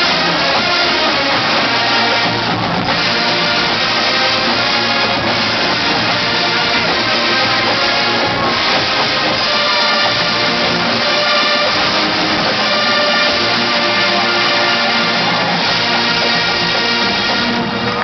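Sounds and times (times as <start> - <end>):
brass holding chords: 0.0 - 18.0
marching drums: 0.0 - 18.0.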